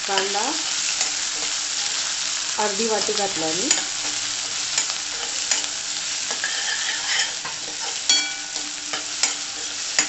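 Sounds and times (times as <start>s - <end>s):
onion sizzling in hot oil: 0.0s - 10.0s
spatula scraping a pan: 0.1s - 10.0s.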